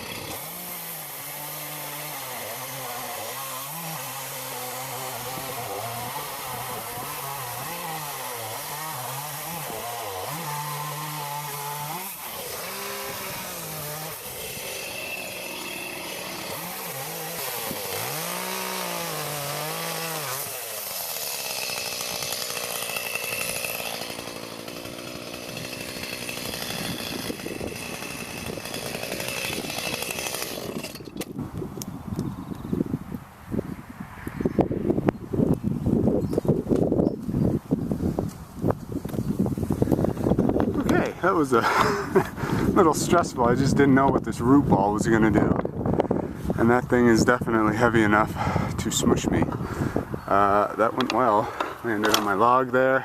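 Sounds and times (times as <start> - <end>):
chainsaw cutting log: 0.0 - 31.6, 38.2 - 53.0.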